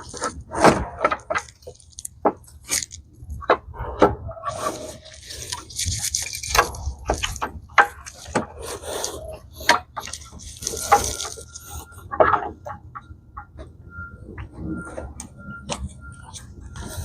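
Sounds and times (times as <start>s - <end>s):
metal scraping: 0.0s - 17.0s.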